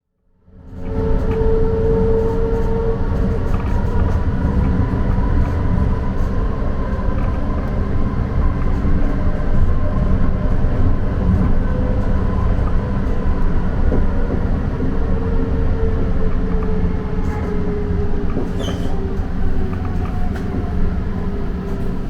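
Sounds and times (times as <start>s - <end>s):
train car rumble: 0.5s - 22.0s.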